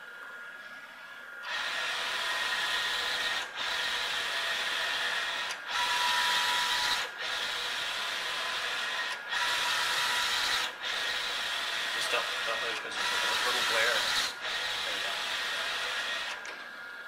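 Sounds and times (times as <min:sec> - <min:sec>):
printer carriage motor whine: 0:00.0 - 0:17.0.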